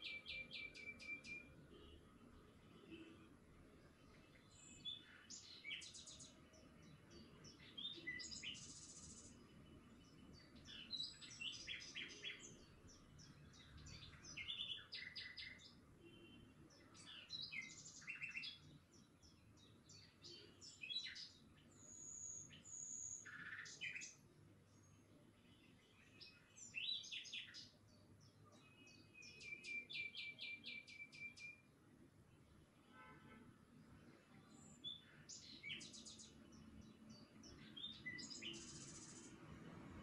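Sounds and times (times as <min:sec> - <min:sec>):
small birds chirping: 0:00.0 - 0:32.8, 0:33.8 - 0:40.0.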